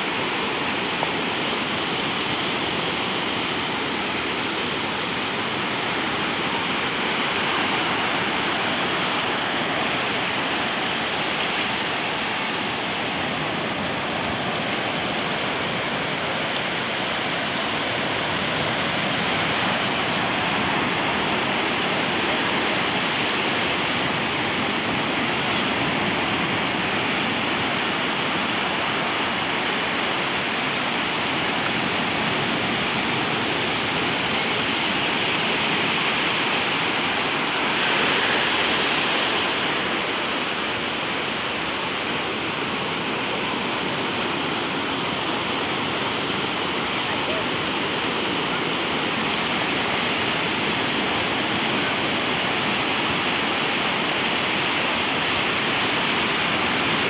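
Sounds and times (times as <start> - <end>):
small waves breaking on shore: 0.0 - 57.0.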